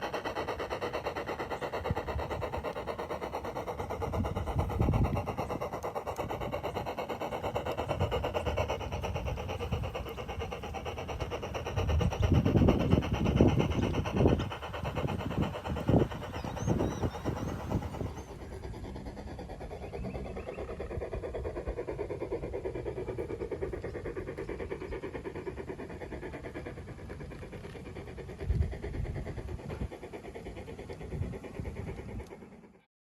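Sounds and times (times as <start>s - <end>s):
engine running with fast pulse: 0.0s - 32.9s.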